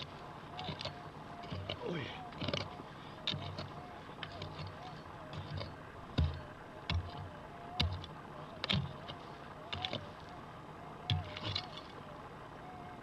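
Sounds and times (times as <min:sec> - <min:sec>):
pick striking stony soil: 0:00.0 - 0:10.1, 0:11.0 - 0:12.0.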